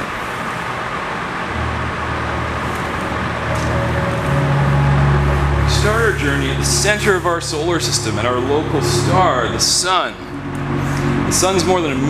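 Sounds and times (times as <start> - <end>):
blower fan rushing air: 0.0 - 12.0
low steady hum: 0.0 - 12.0.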